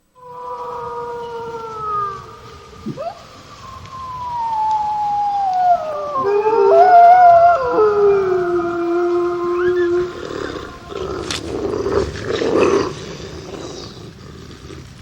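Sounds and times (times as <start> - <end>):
wolves howling: 0.0 - 15.0.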